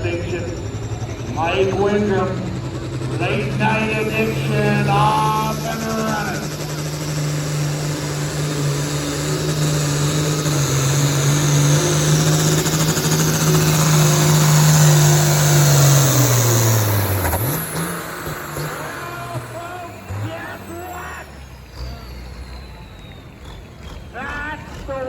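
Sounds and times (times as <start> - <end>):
high whine: 0.0 - 25.0
tractor engine running flat out: 0.0 - 25.0.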